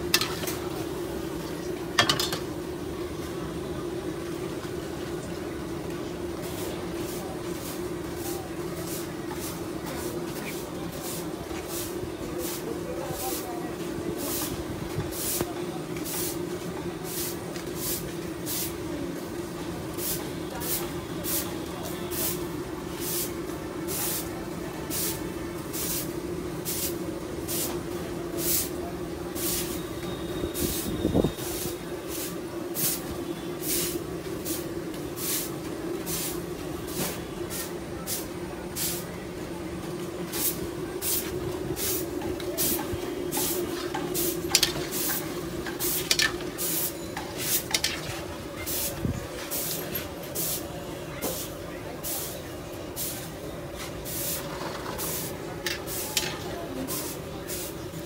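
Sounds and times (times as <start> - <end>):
hot oil frying in a wok: 0.0 - 58.0.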